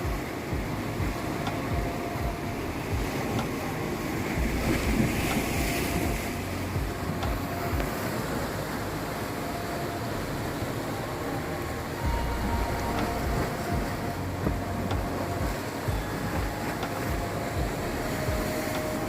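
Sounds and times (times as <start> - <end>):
waves breaking over rocks: 0.0 - 19.0
wind buffeting microphone: 0.0 - 19.0.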